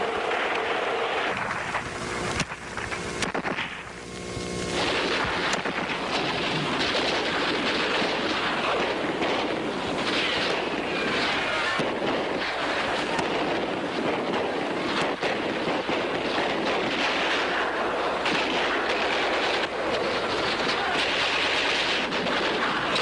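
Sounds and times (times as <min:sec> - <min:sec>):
gunfire crackle: 0:00.0 - 0:23.0.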